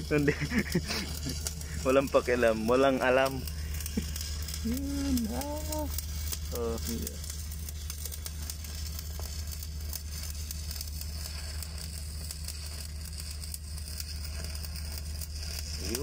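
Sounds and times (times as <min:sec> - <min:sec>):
low hum: 0:00.0 - 0:16.0
welding arc crackling: 0:00.0 - 0:16.0.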